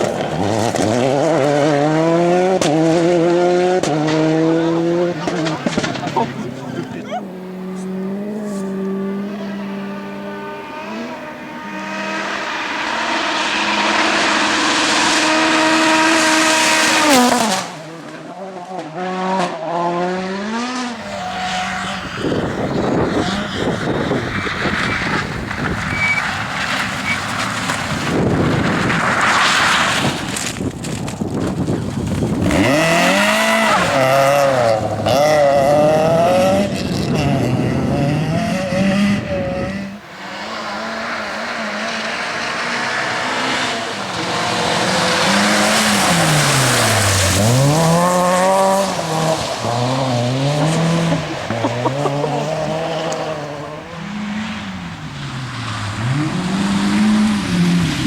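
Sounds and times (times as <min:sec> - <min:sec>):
tyre noise: 0:00.0 - 0:12.7, 0:20.9 - 0:58.0
rally car engines revving: 0:00.0 - 0:58.0.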